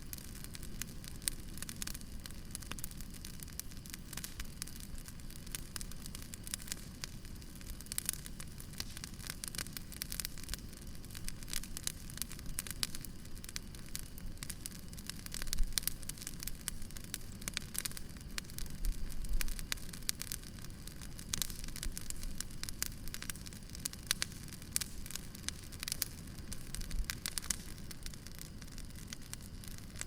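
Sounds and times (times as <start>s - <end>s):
wood fire crackling: 0.0s - 30.0s
sharp pops and snaps: 0.1s - 30.0s.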